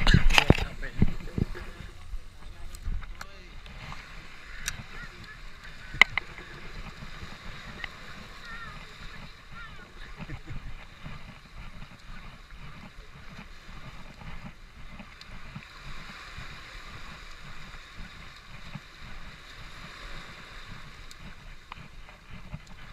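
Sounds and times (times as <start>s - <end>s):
ocean surf over rocks: 0.0s - 22.9s
wind buffeting microphone: 0.0s - 22.9s.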